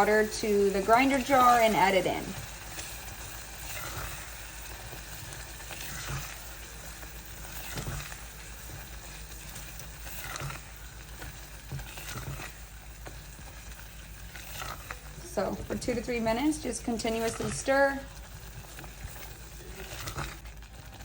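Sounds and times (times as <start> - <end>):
shrimp sizzling in a pan: 0.0 - 21.0
spoon stirring and scraping: 0.0 - 21.0.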